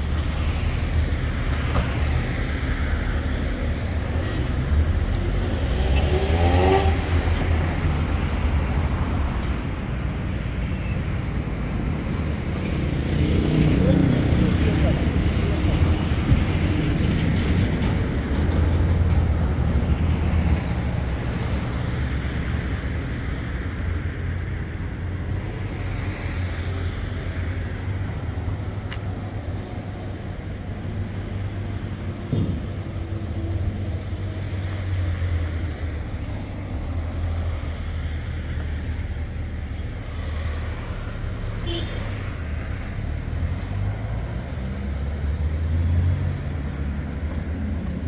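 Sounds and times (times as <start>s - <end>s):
street traffic engines: 0.0s - 48.0s.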